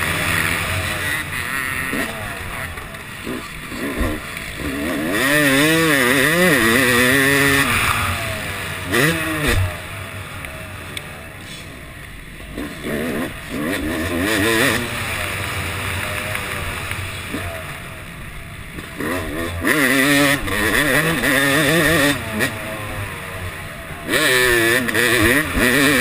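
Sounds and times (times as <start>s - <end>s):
motocross engine revving: 0.0s - 26.0s.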